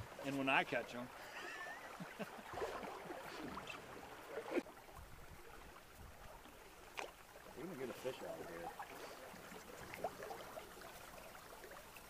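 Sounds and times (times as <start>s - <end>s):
river water moving around boat: 0.0s - 12.0s.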